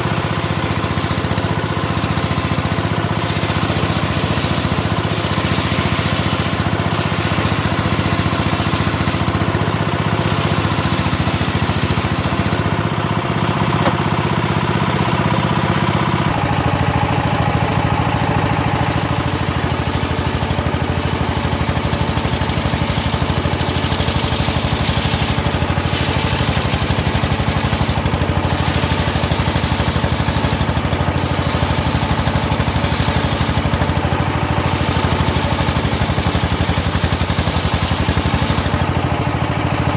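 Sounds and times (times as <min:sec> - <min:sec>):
engine-driven circular saw running: 0:00.0 - 0:39.9
saw cutting wood hiss: 0:00.0 - 0:39.9.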